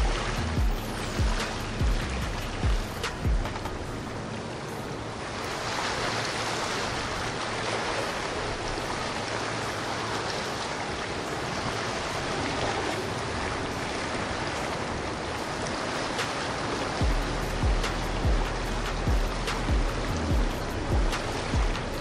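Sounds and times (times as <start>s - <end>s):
water rushing and splashing: 0.0s - 22.0s.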